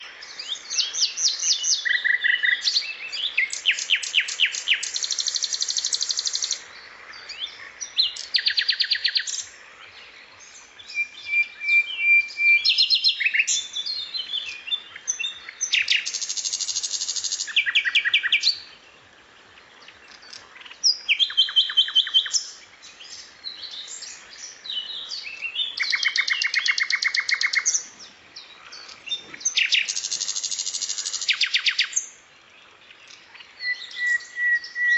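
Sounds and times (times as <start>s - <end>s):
recorded songbird trills: 0.0s - 34.9s.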